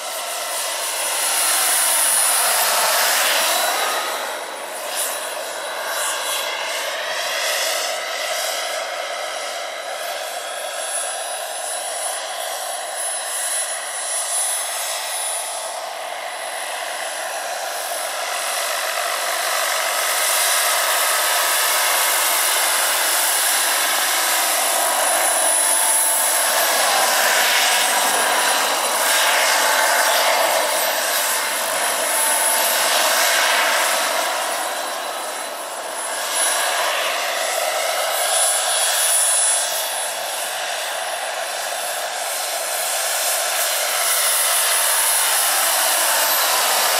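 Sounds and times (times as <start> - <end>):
model helicopter turbine whine: 0.0 - 46.9.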